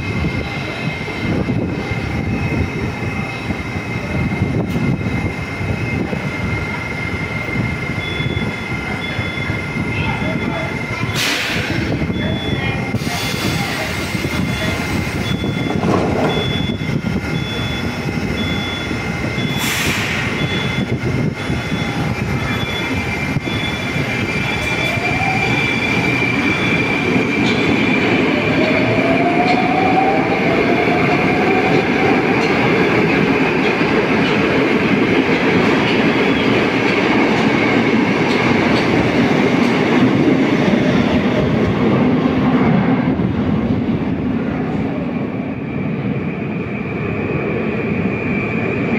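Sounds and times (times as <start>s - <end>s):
train wheels on rails: 0.0s - 48.9s.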